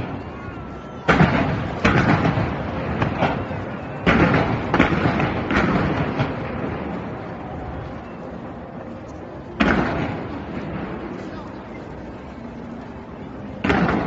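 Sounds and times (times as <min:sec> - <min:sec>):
fireworks bangs and crackle: 0:00.0 - 0:08.3, 0:09.2 - 0:12.1, 0:13.5 - 0:14.0.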